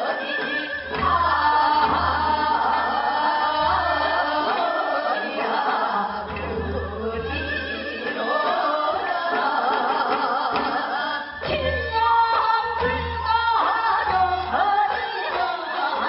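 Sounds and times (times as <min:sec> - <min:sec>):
women singing folk song: 0:00.0 - 0:16.0.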